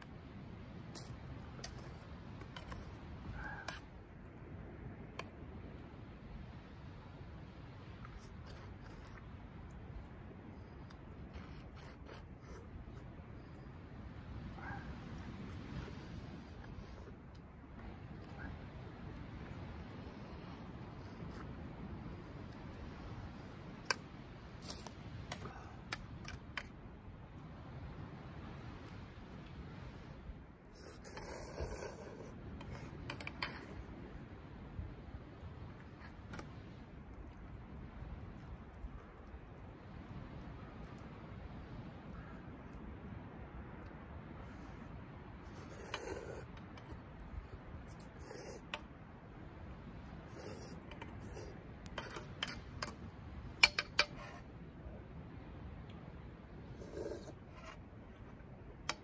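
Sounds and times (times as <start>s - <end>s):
low steady background hiss: 0.0s - 59.0s.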